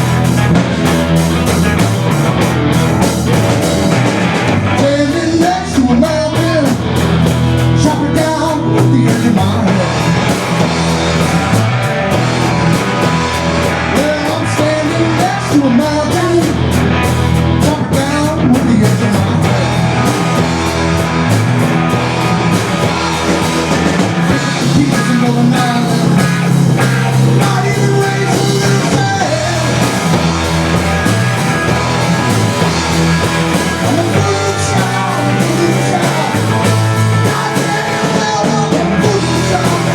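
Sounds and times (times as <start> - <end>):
electric guitar bending notes: 0.0 - 39.9
rock band playing: 0.0 - 39.9.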